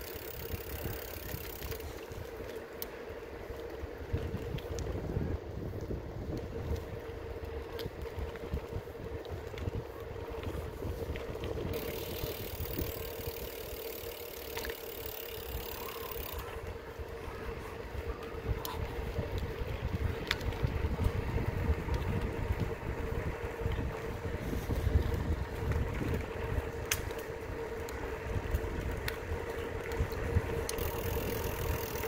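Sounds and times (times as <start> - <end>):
wind rumbling on microphone: 0.0 - 2.6, 3.2 - 32.0.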